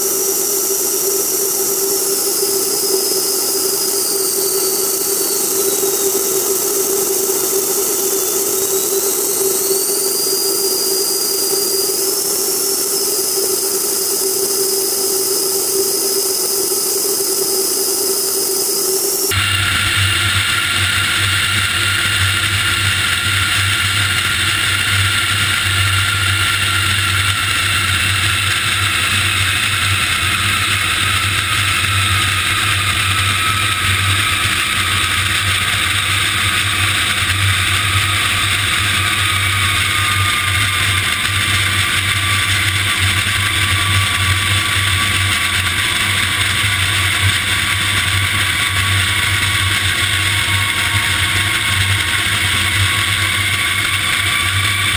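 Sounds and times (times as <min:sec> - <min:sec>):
jet engines running: 0:00.0 - 0:54.9
low hum: 0:00.0 - 0:54.9
turbine whine falling in pitch: 0:00.0 - 0:54.9.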